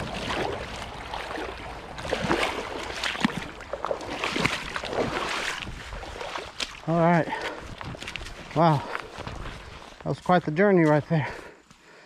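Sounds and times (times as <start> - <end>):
water sloshing around legs: 0.0 - 10.0.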